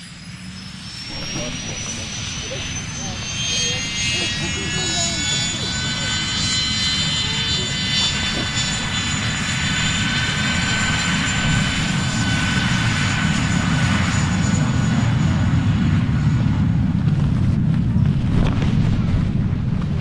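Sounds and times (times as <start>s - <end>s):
engine drone with high whine: 0.0s - 20.0s.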